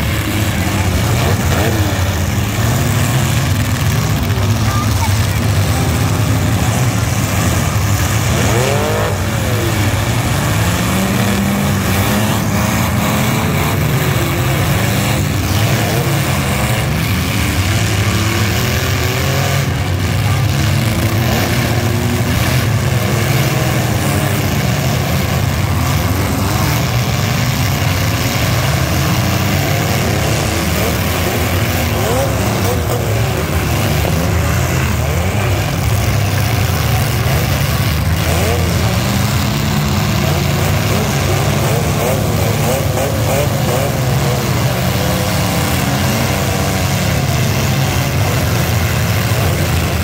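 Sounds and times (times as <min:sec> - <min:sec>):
car engines revving hard: 0:00.0 - 0:50.0.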